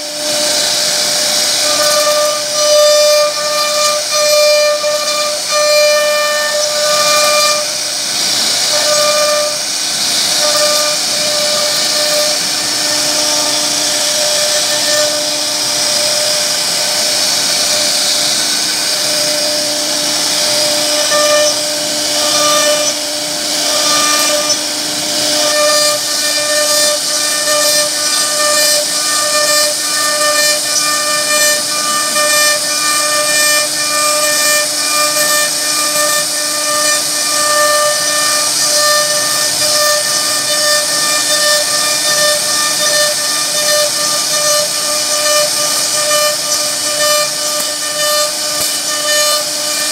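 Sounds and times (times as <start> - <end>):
hiss of wood cutting: 0.0 - 49.9
router spindle whining: 0.0 - 49.9.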